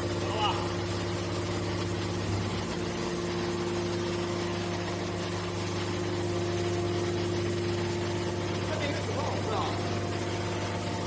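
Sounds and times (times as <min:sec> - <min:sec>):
hydraulic pump humming: 0:00.0 - 0:11.0.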